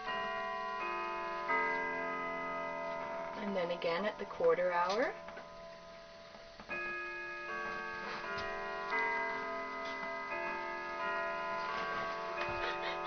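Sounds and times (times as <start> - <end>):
clock chime melody: 0.0 - 13.0.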